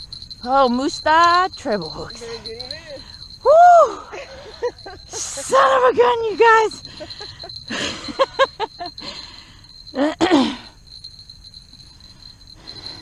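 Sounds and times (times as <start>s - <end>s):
insect buzz: 0.0s - 3.5s, 4.1s - 13.0s.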